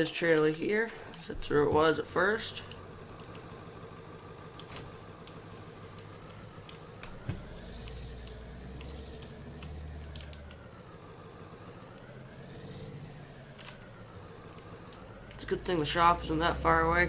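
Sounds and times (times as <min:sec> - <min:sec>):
pickup truck engine running: 0:00.0 - 0:17.0.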